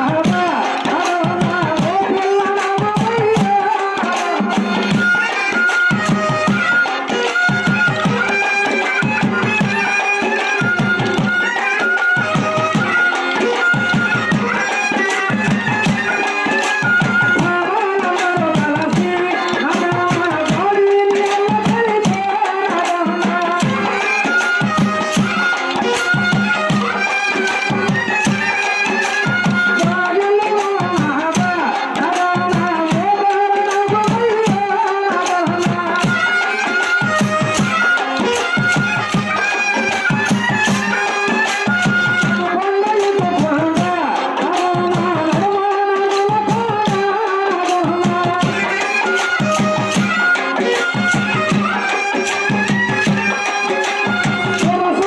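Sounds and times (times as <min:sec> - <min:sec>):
fast drum beat: 0:00.0 - 0:55.0.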